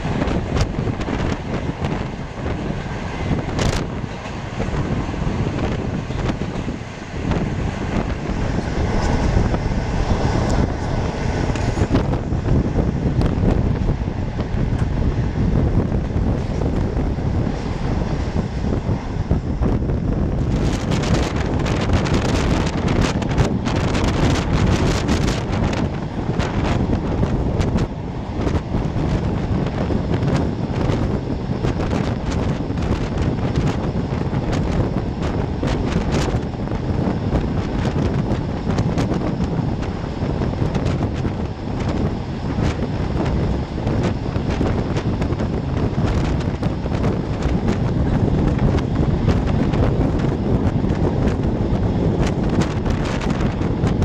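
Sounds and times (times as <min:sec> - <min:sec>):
train rumble: 0:00.0 - 0:54.0
wind buffeting microphone: 0:00.0 - 0:54.0.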